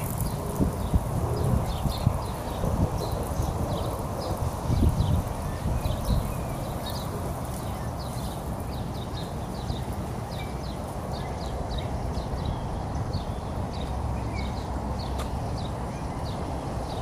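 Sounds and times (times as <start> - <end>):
small birds chirping: 0.0 - 17.0
steady background noise: 0.0 - 17.0.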